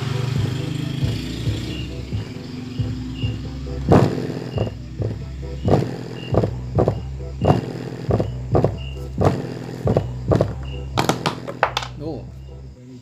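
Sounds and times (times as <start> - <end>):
deep bass line: 0.0 - 12.8
kick drum: 0.4 - 11.5.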